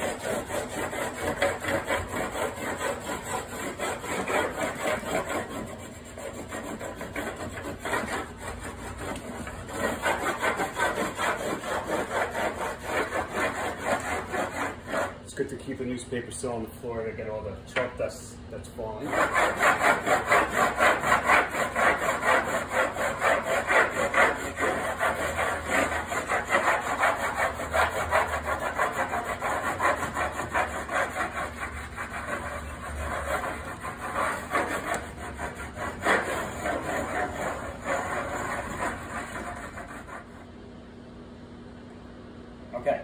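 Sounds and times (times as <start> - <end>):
chalk scraping on chalkboard: 0.0 - 15.2, 19.0 - 40.5.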